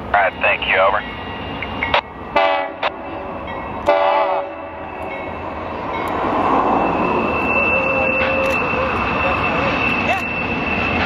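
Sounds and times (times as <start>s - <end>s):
freight locomotives rumbling: 0.0s - 11.0s.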